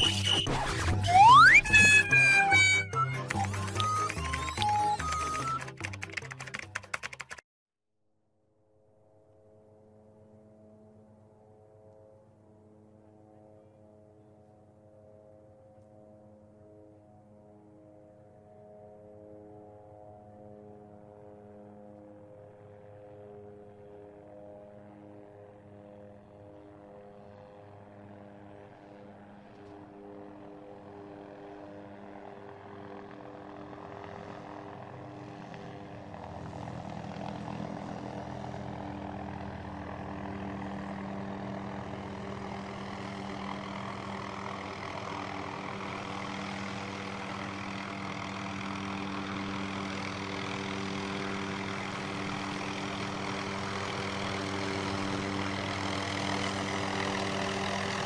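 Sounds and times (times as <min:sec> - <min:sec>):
helicopter droning hum: 0:00.0 - 0:07.4, 0:08.6 - 0:58.0.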